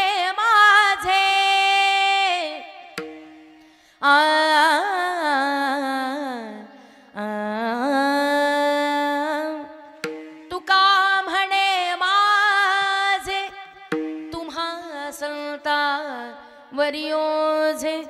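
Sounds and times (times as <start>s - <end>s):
woman singing wordless ornamented song: 0.0s - 18.0s.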